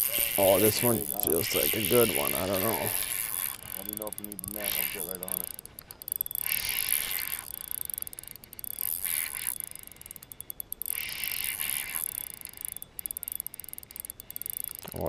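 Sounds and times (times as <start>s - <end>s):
fishing reel gears whirring: 0.0s - 15.0s.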